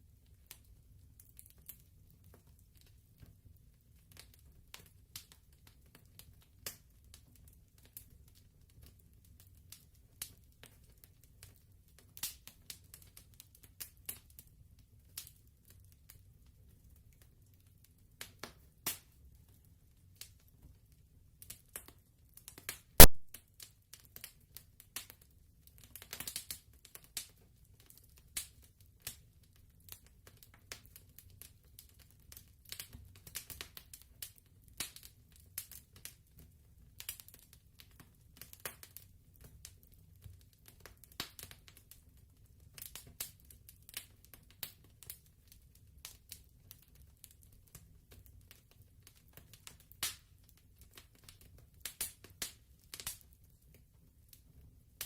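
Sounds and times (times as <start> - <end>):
wood fire crackling and popping: 0.1 - 55.0.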